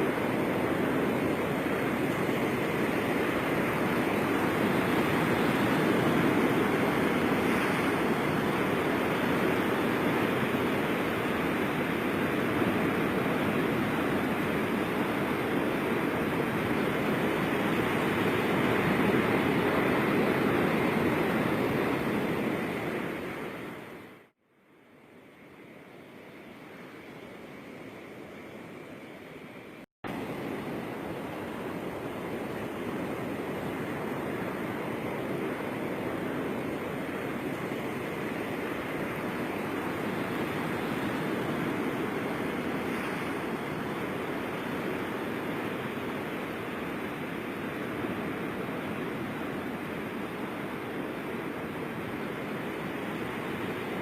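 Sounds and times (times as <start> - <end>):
ocean surf breaking: 0.0 - 24.3, 30.1 - 54.0.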